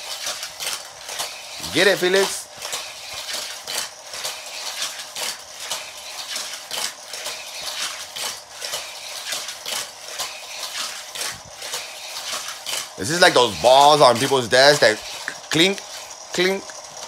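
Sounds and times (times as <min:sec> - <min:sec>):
toy cars clattering on plastic track: 0:00.0 - 0:17.0.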